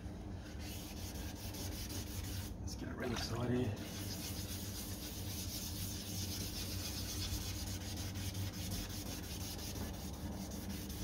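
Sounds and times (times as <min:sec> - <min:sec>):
sandpaper rubbing on plastic: 0:00.5 - 0:02.5, 0:03.2 - 0:11.0.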